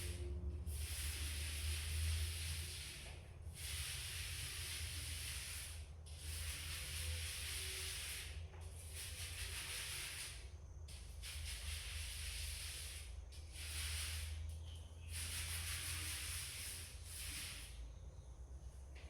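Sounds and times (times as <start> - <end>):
paint roller hiss on wall: 0.0 - 19.0.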